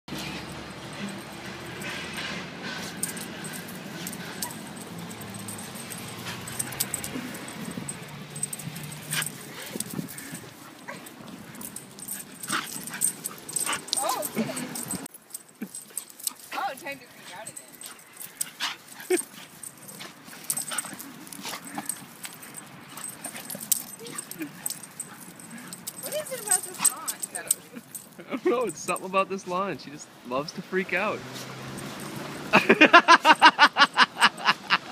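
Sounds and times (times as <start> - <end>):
metal collar jingling: 0.1 - 30.2, 30.8 - 34.6.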